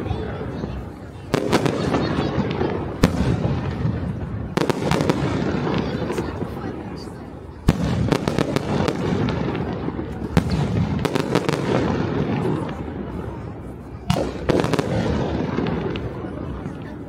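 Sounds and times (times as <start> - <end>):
din of firework bursts and echoes: 0.0 - 17.0
fireworks bangs: 0.0 - 17.0.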